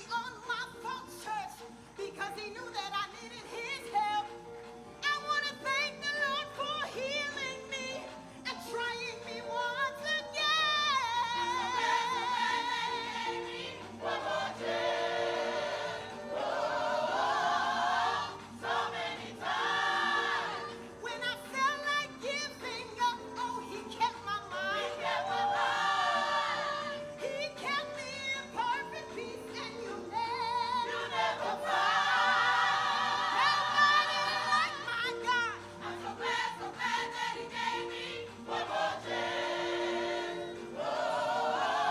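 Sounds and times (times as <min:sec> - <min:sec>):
gospel choir singing: 0:00.0 - 0:41.9
instrumental accompaniment: 0:03.3 - 0:41.9.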